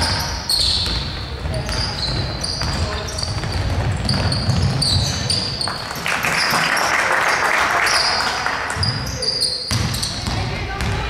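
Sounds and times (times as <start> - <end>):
sneakers squeaking on floor: 0.0 - 7.0, 7.8 - 11.0.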